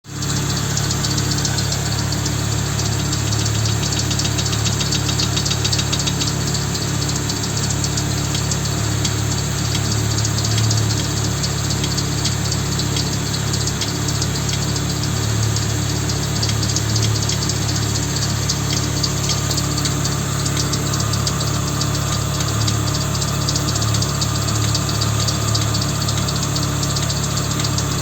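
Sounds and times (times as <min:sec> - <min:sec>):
car engine idling: 0:00.0 - 0:28.0
engine knocking: 0:00.0 - 0:28.0.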